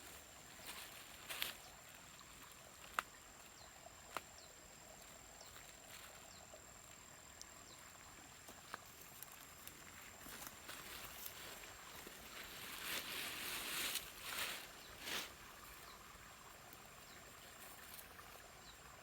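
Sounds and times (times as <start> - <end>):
soft hiss: 0.0 - 19.0.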